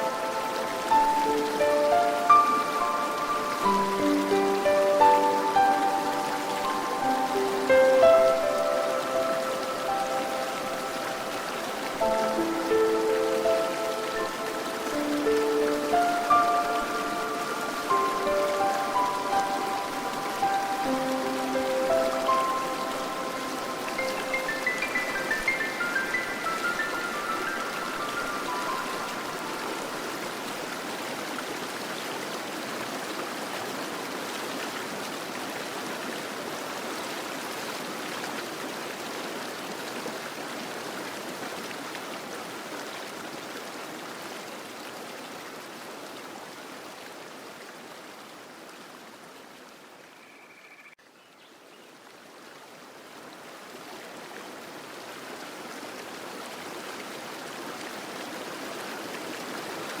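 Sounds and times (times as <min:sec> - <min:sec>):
fountain water splashing: 0:00.0 - 0:49.2, 0:52.8 - 1:00.0.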